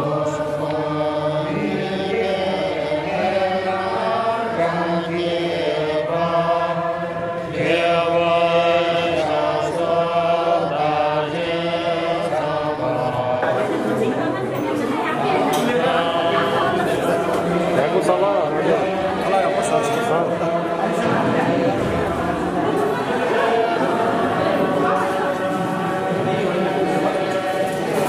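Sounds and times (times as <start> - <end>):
men chanting in unison: 0.0 - 13.9, 15.2 - 28.0.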